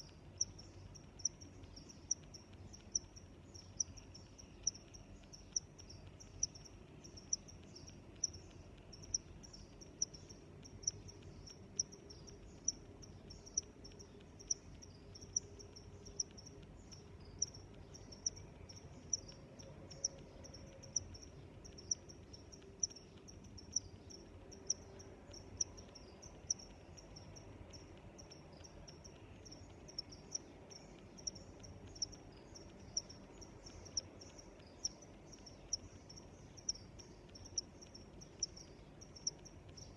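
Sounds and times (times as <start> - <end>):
crickets chirping: 0.0 - 39.9
faint low hum: 0.0 - 39.9.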